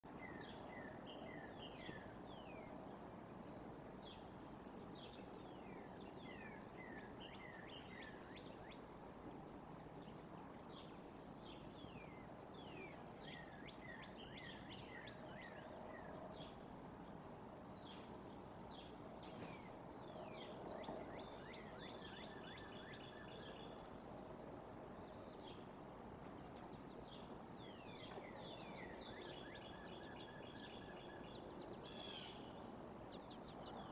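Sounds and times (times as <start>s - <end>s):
outdoor background hiss: 0.0s - 33.9s.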